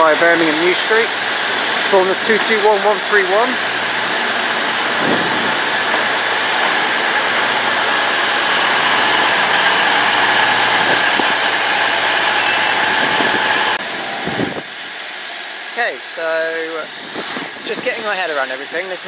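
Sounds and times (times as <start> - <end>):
diesel train engine and fan drone: 0.0 - 19.0
high steady whining tones: 0.0 - 19.0.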